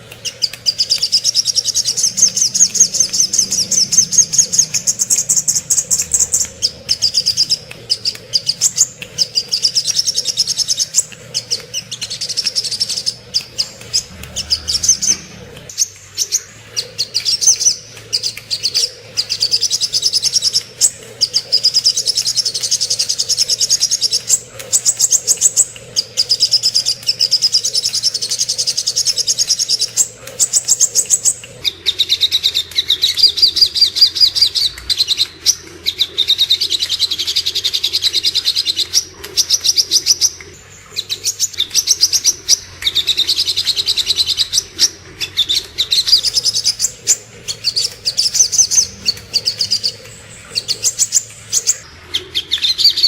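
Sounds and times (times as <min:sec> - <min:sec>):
bird twittering song: 0:00.0 - 0:53.0.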